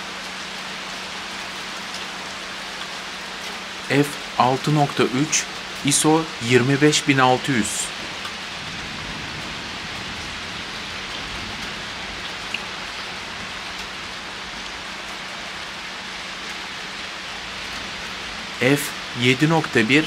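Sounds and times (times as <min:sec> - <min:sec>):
rain falling on a street: 0:00.0 - 0:20.0.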